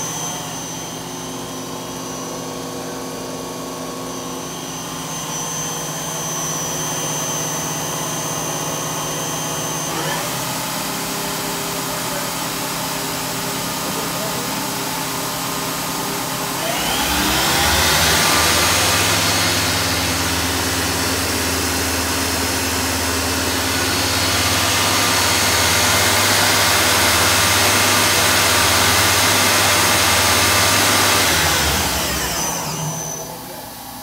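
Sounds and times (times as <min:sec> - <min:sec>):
lathe spindle whine: 0:00.0 - 0:34.0.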